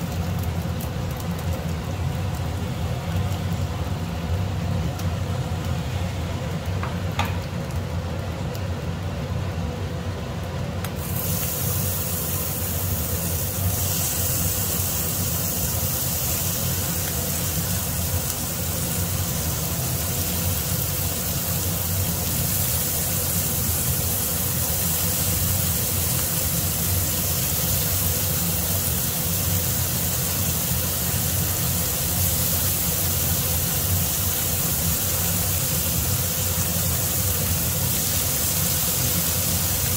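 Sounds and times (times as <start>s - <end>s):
meat sizzling in a frying pan: 0.0s - 8.9s, 10.9s - 39.9s.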